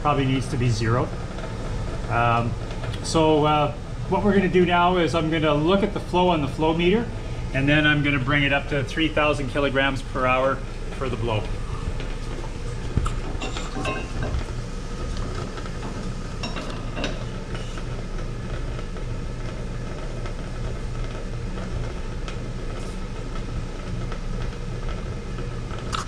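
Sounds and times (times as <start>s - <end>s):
machinery hum and hiss: 0.0s - 26.0s.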